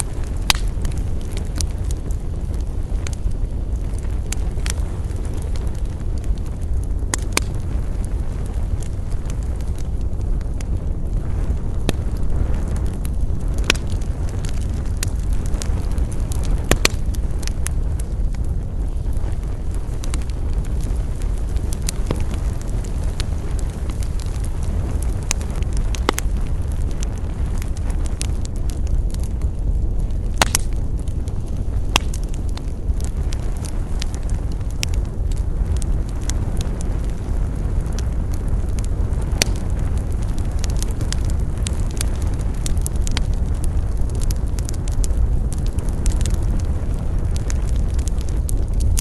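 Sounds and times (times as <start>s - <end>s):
steady low rumble: 0.0s - 49.0s
wood fire crackling: 0.0s - 49.0s.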